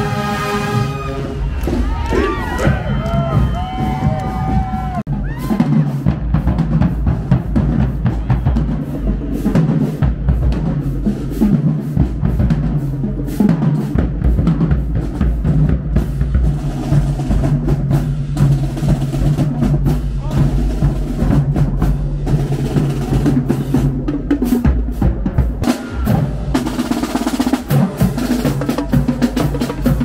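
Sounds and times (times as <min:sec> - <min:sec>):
bass drum beats: 0:01.4 - 0:30.0
snare drum rolls: 0:01.5 - 0:30.0.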